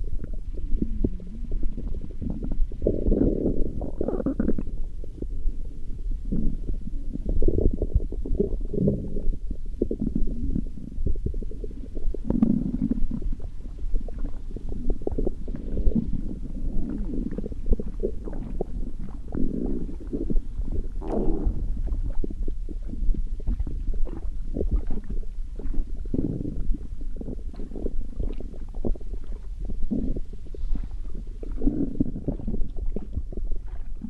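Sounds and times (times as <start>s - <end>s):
stomach growling: 0.0s - 34.0s.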